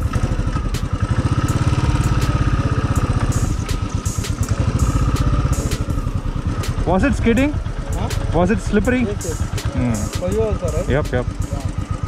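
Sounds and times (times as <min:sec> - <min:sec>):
motorcycle engine thumping: 0:00.0 - 0:12.0.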